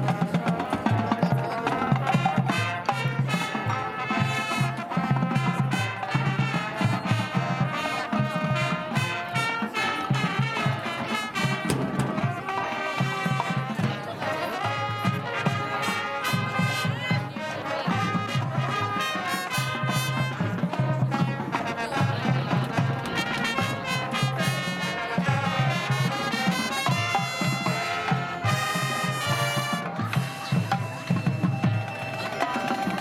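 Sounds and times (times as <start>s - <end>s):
trumpets and trombones playing melody: 0.0s - 33.0s.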